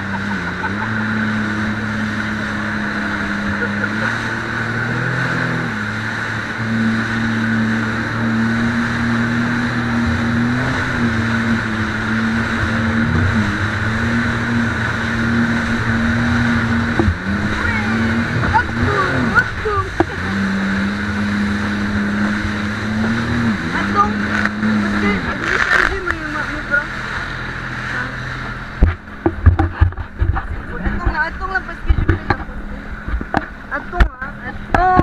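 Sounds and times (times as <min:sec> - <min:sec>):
hiss of water and wind: 0:00.0 - 0:35.0
jet ski engine running: 0:00.0 - 0:35.0.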